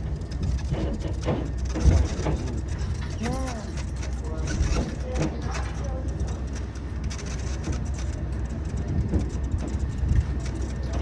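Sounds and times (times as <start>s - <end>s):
light clicks and knocks: 0.0s - 11.0s
trolley train rumbling on rails: 0.0s - 11.0s.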